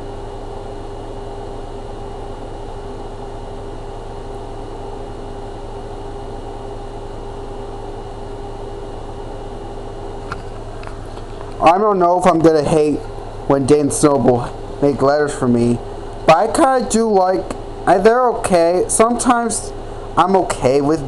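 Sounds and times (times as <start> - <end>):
room hum droning tone: 0.0 - 21.0.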